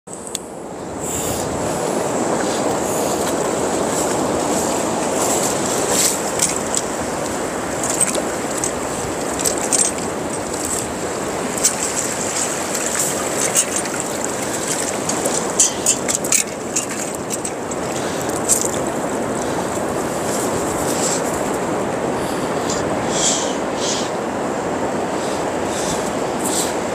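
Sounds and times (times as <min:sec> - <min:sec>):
shallow surf washing: 0:00.2 - 0:26.9.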